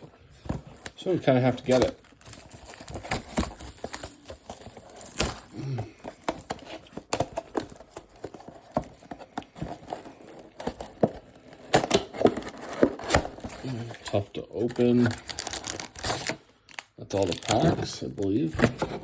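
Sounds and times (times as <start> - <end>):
packaging crinkling and tearing: 0.0 - 19.0.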